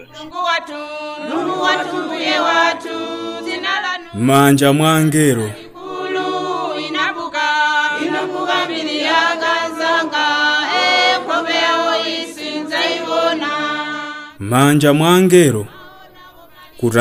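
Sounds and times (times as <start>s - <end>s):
choir singing long held notes: 0.0s - 17.0s.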